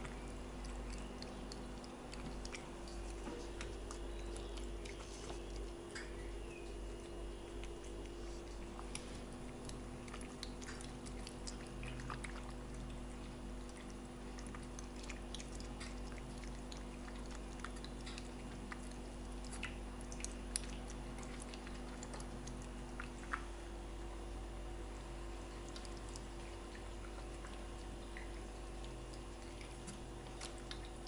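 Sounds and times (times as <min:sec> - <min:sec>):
cat chewing and lapping: 0:00.0 - 0:31.0
steady low hum: 0:00.0 - 0:31.0.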